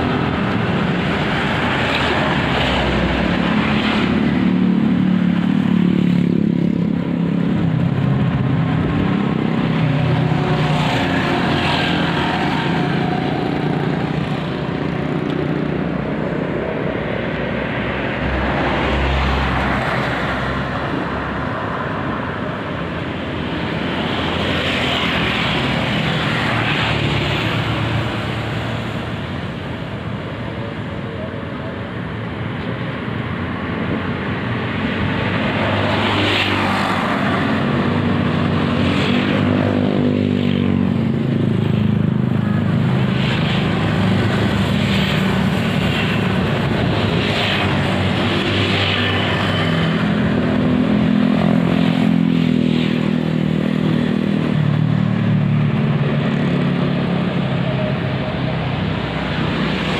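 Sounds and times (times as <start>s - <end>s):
passing traffic engine drone: 0.0s - 59.9s.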